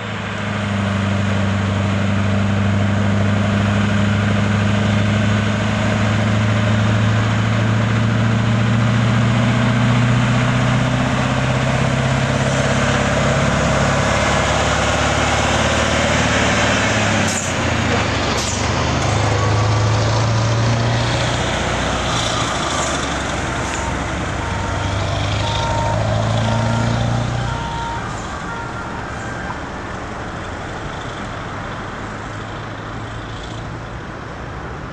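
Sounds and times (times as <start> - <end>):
diesel truck droning past: 0.0 - 34.9.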